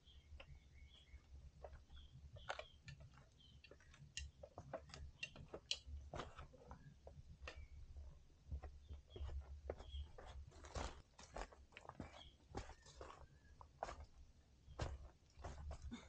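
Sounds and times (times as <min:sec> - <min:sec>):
steps on a metal ladder: 0:01.6 - 0:16.0.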